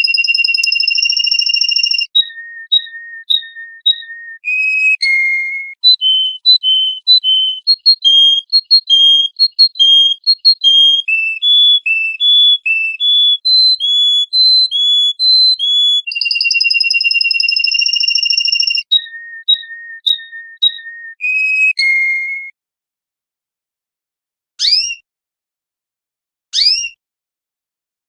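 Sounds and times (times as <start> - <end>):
bird whistling song: 0.0 - 22.5, 24.6 - 25.0, 26.6 - 27.0.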